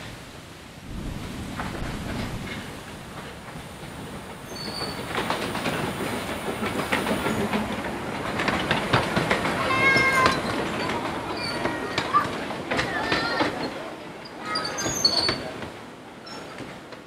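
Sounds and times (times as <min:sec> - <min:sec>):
steam train passing: 0:00.0 - 0:17.0
wheels clicking over rail joints: 0:01.6 - 0:17.0.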